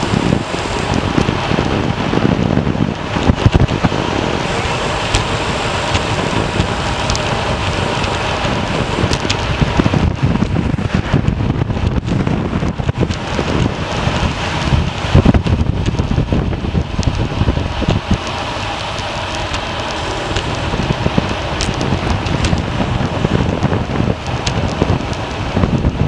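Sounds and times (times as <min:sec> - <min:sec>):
tyres hissing on road: 0:00.0 - 0:25.8
wind buffeting microphone: 0:00.0 - 0:26.0.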